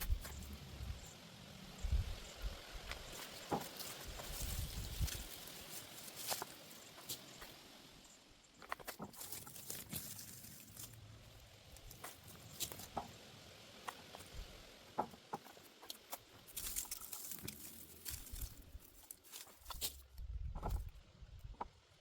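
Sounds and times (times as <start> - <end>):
vines and leaves rustling: 0.0 - 22.0.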